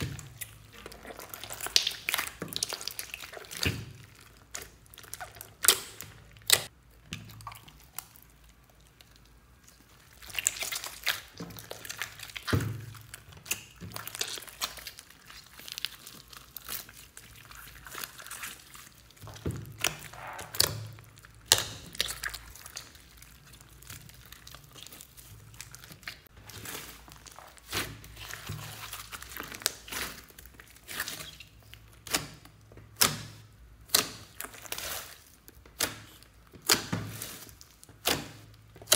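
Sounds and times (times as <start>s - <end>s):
sticky slime squelching: 0.0s - 38.9s.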